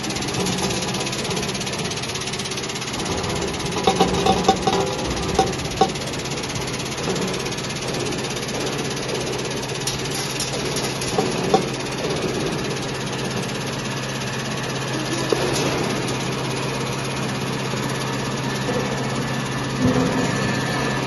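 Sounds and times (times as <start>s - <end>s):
vibration motor hum: 0.0s - 21.0s.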